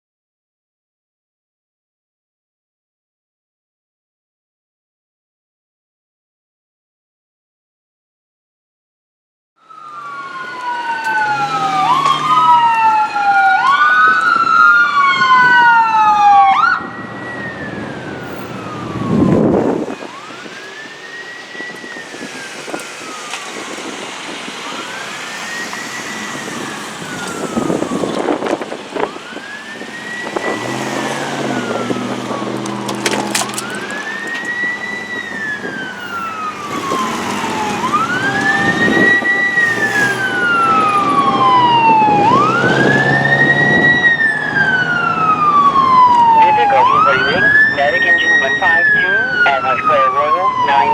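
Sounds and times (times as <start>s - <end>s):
emergency vehicle sirens: 9.6s - 50.9s.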